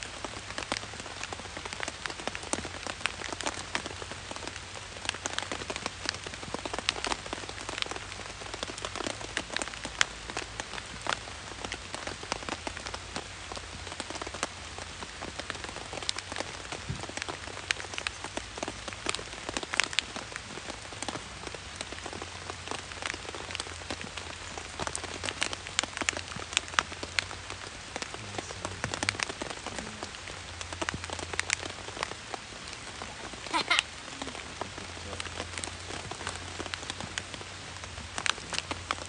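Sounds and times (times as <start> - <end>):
rain pattering on a tent: 0.0 - 39.0.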